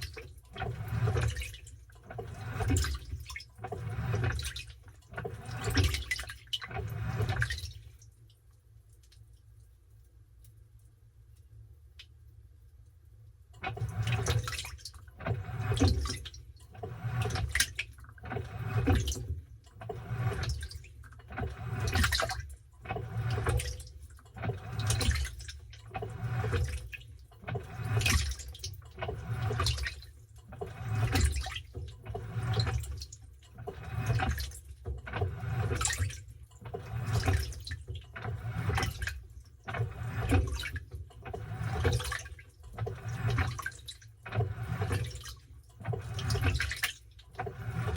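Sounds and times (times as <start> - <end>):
washing machine water sloshing: 0.0 - 9.4, 13.5 - 47.9.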